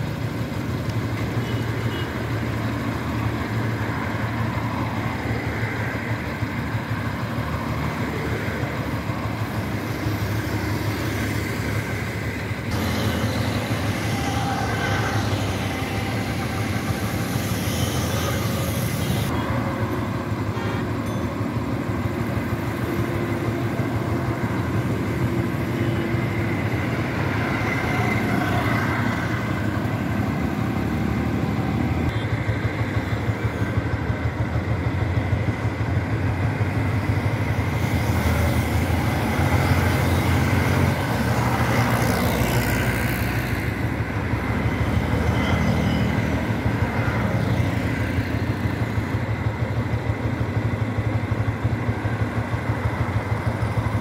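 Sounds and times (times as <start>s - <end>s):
motorcycle engine drone: 0.0s - 54.0s
traffic passing: 0.0s - 54.0s.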